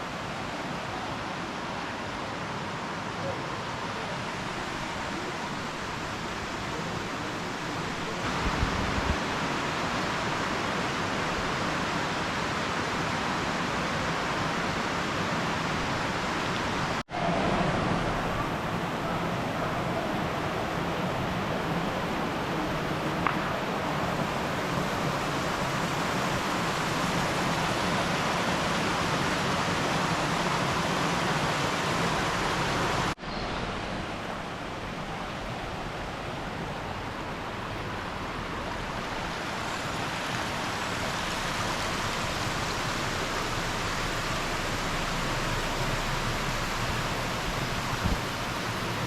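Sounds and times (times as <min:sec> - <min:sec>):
flowing water rushing: 0:00.0 - 0:49.0.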